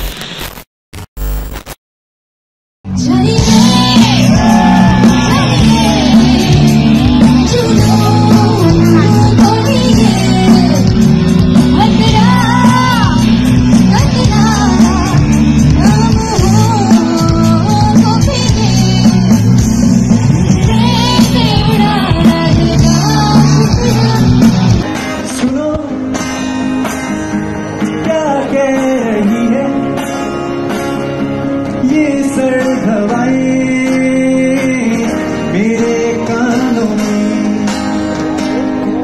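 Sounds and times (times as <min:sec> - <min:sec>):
person singing over loud band: 0:02.9 - 0:26.6, 0:27.7 - 0:30.9, 0:31.7 - 0:39.0
person singing over guitar: 0:02.9 - 0:39.0.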